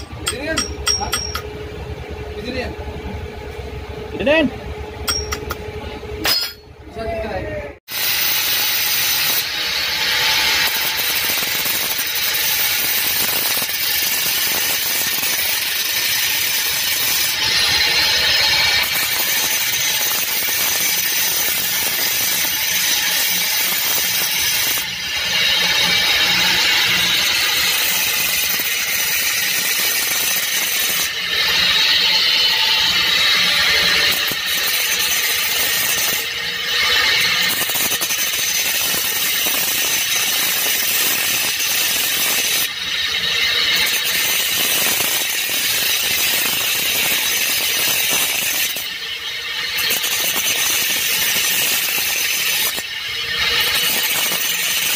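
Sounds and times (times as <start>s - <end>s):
angle grinder cutting metal: 0.0s - 1.5s, 7.9s - 54.9s.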